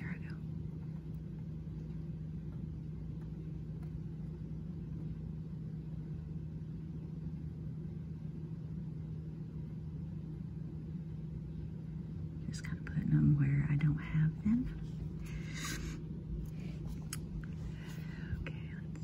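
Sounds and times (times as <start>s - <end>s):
machine hum with rumble: 0.0s - 19.0s.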